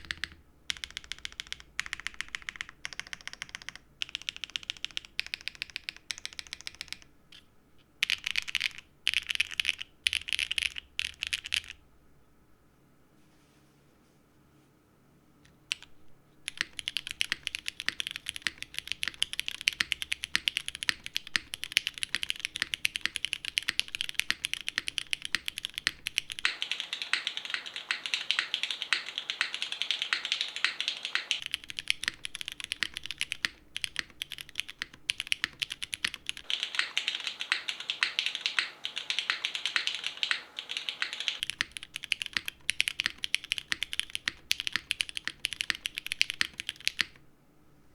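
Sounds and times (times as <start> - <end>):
fast mechanical keyboard typing: 0.0 - 7.1, 8.0 - 11.8, 15.7 - 15.9, 16.5 - 47.2.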